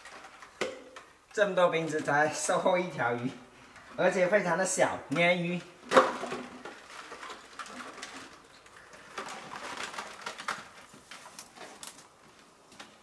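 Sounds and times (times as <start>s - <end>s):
plastic bottles rattling and crinkling: 0.0s - 13.0s.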